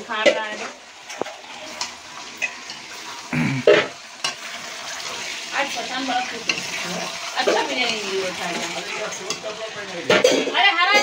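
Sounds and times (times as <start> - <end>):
chicken sizzling in pan: 0.0 - 11.0
spatula scraping pan: 0.0 - 11.0.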